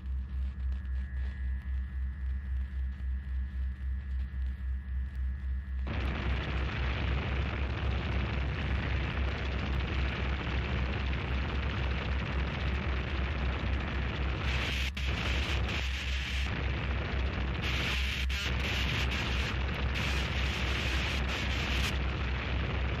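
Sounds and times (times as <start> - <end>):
distorted static noise music: 0.0 - 23.0
pulsing low rumble: 0.0 - 23.0.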